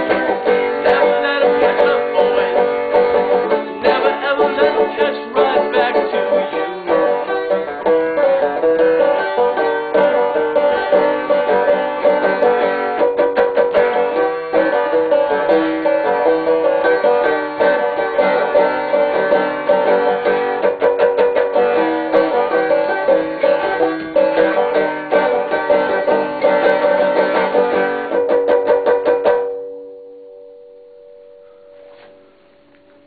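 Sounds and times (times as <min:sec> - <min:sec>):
banjo picking: 0:00.0 - 0:29.7.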